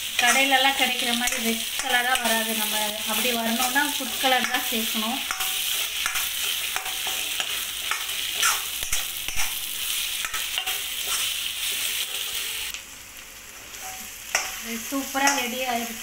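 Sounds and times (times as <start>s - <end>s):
food sizzling in hot oil: 0.0s - 16.0s
metal spatula scraping a pan: 0.1s - 12.7s, 13.7s - 15.6s.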